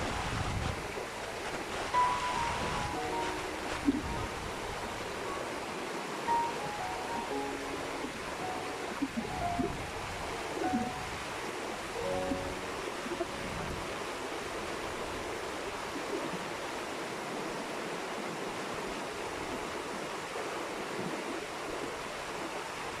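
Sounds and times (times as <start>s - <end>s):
river water flowing: 0.0s - 23.0s.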